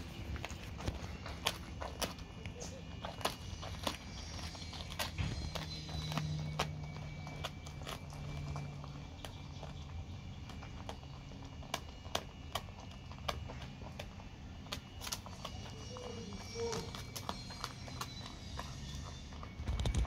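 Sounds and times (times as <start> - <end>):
dog crunching fish bones: 0.0 - 20.0.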